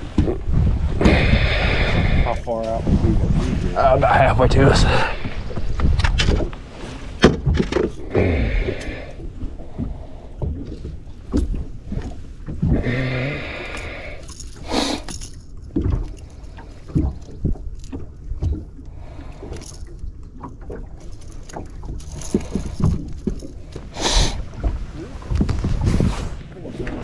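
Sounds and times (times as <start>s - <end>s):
water: 0.0s - 27.0s
wind: 0.0s - 27.0s.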